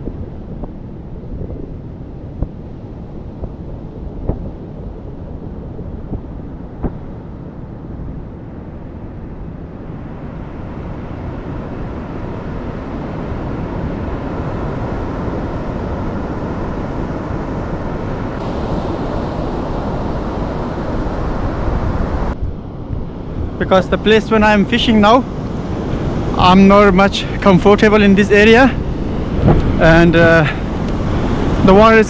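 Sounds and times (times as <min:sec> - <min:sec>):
ocean surf washing onto beach: 0:00.0 - 0:32.0
wind buffeting microphone: 0:00.0 - 0:32.0.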